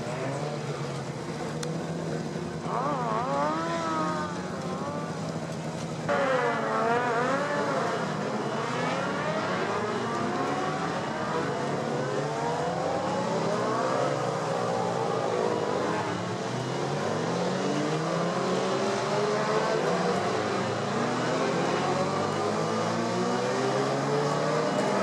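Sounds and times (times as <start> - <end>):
racing motorcycles at high revs: 0.0 - 25.0.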